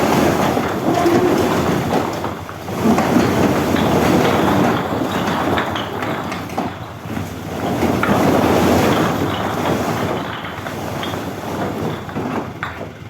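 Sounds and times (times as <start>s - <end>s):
heavy machinery rumbling: 0.0s - 13.0s.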